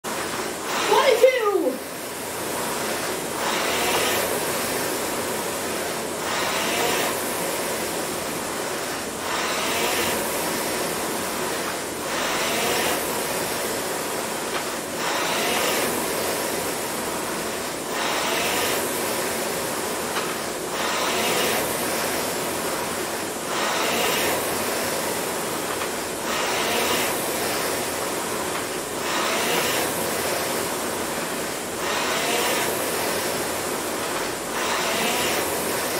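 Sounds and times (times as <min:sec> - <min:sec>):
rowing machine flywheel whooshing: 0:00.1 - 0:35.9.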